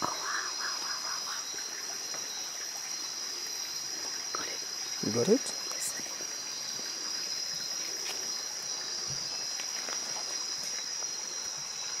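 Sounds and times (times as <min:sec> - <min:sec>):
faint ticks in leaf litter: 0:00.0 - 0:12.0
night insects trilling: 0:00.0 - 0:12.0.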